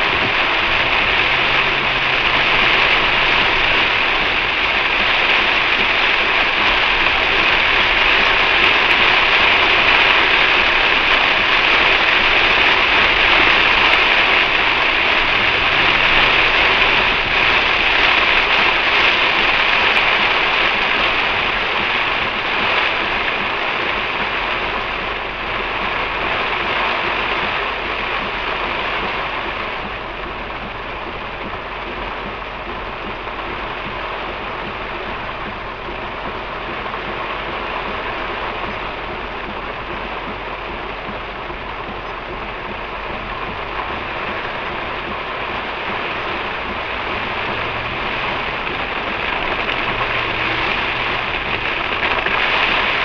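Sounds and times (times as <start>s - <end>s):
rain on car roof: 0.0s - 53.0s
tyres on wet road: 0.0s - 53.0s.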